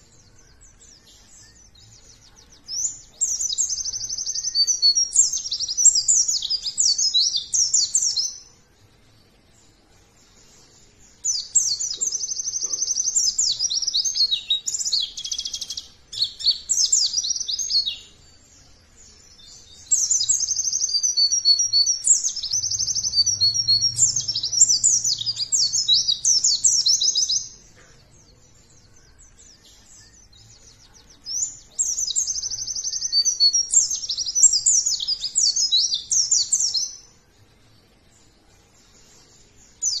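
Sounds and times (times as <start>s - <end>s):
bird twittering song: 0.0s - 40.0s.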